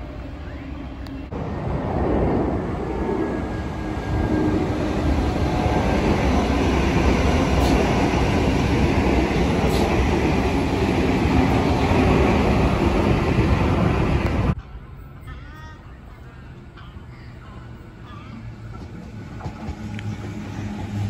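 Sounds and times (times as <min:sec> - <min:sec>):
train wheels rumbling on rails: 0:00.0 - 0:14.6, 0:18.1 - 0:21.0.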